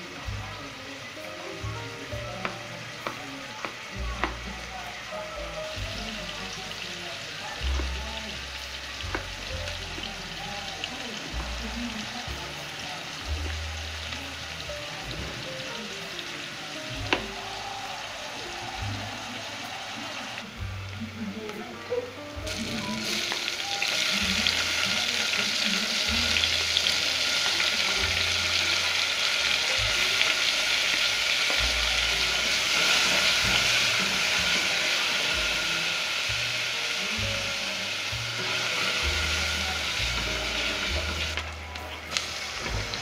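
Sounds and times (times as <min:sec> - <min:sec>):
tomatoes sizzling in a pan: 0:00.0 - 0:43.0.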